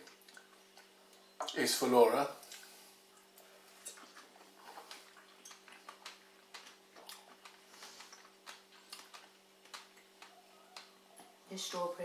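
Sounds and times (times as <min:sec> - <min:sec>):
people chewing strawberries: 0:00.0 - 0:01.5, 0:02.4 - 0:11.4
low steady hum: 0:00.0 - 0:12.0.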